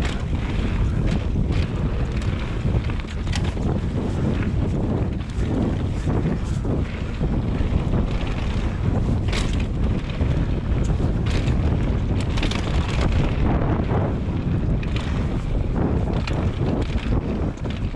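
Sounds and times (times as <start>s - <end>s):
bike rattling and knocking: 0.0s - 17.9s
bike tyres rumbling on dirt: 0.0s - 17.9s
wind buffeting microphone: 0.0s - 17.9s.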